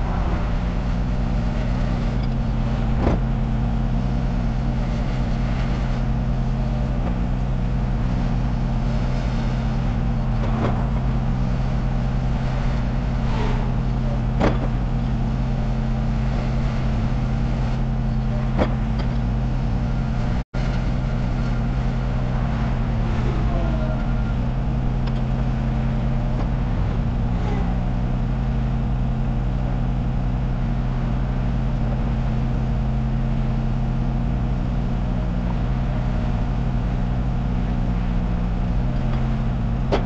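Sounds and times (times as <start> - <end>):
engine drone: 0.0 - 40.0.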